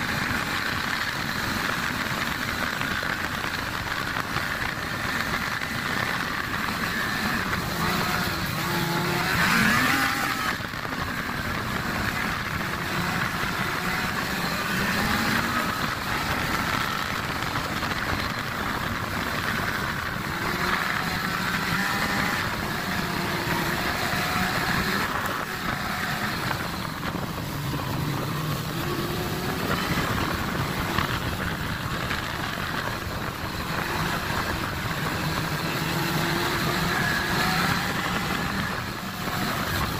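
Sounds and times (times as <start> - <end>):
snowmobile engine running: 0.0 - 39.9
steady rush of noise: 0.0 - 39.9.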